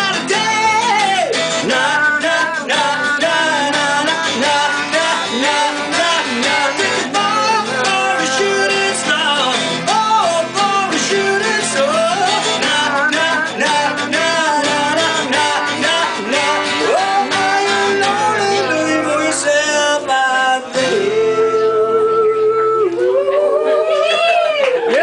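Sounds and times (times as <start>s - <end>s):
electric guitar: 0.0s - 25.0s
person singing: 0.0s - 25.0s
second guitar: 0.0s - 25.0s.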